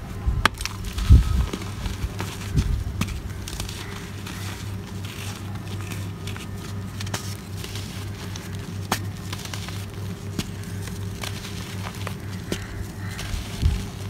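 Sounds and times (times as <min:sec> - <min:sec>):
steady low hum: 0:00.0 - 0:14.0
gritty crunching and trickling: 0:00.4 - 0:14.0
pieces snapping with cracks: 0:00.4 - 0:14.0.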